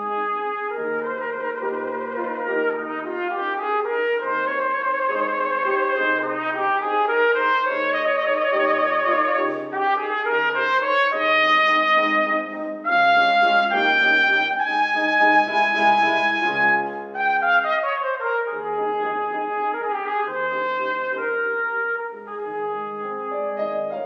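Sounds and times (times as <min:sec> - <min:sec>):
piano accompaniment: 0:00.0 - 0:24.0
trumpet melody: 0:00.0 - 0:24.0.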